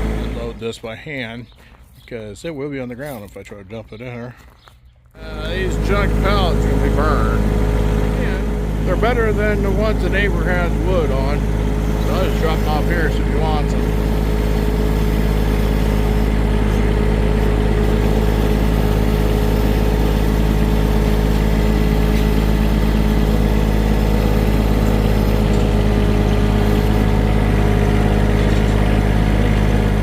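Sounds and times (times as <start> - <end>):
vehicle engine running steadily: 0.0 - 1.0, 5.2 - 30.0.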